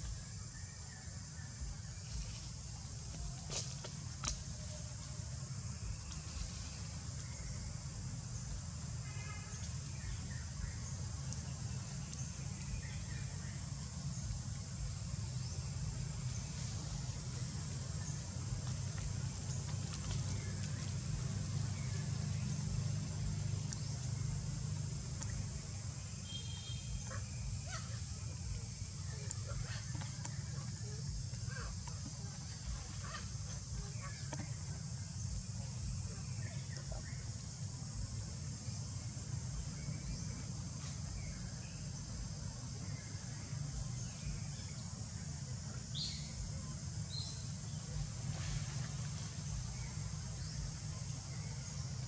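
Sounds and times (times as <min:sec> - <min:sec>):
steady high hiss: 0:00.0 - 0:52.0.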